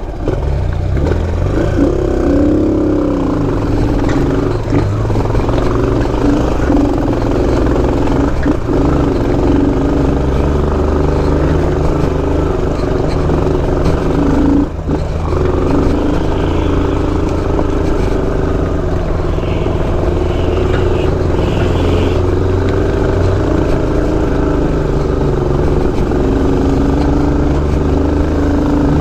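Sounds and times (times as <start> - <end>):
dirt bike engine at low revs: 0.0 - 29.0.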